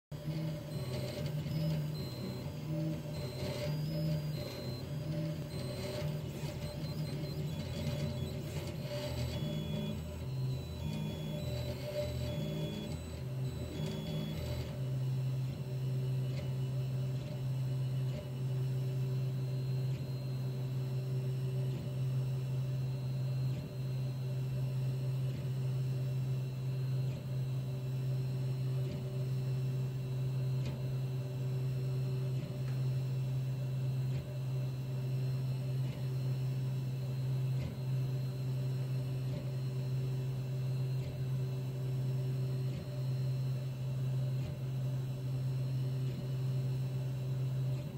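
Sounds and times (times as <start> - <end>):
three-d printer humming: 0.1 - 47.9.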